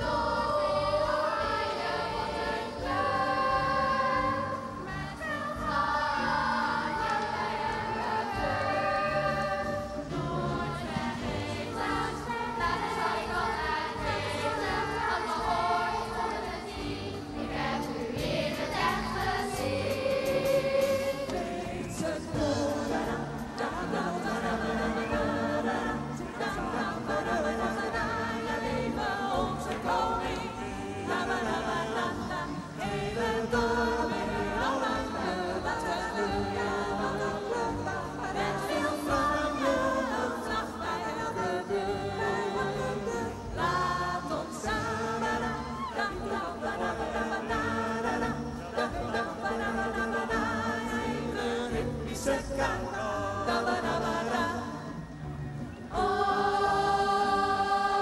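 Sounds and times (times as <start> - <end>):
backing music with steady beat: 0.0 - 58.0
choir singing: 0.0 - 58.0.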